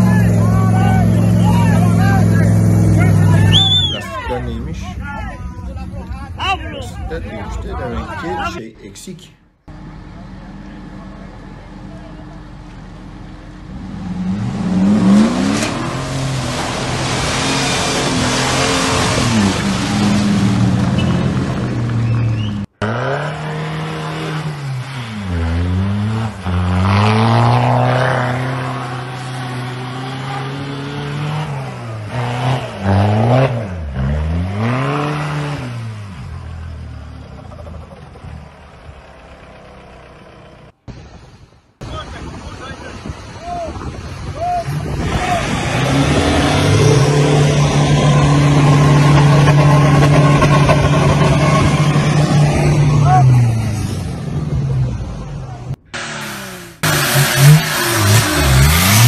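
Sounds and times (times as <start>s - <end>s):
truck engine revving: 0.0s - 5.4s, 9.6s - 41.1s, 41.8s - 59.0s.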